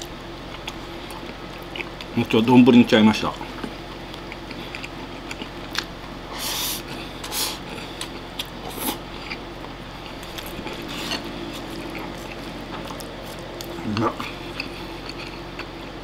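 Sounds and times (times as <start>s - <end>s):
steady low hum: 0.0s - 16.0s
chewing: 0.5s - 2.2s, 3.6s - 6.2s, 6.8s - 16.0s.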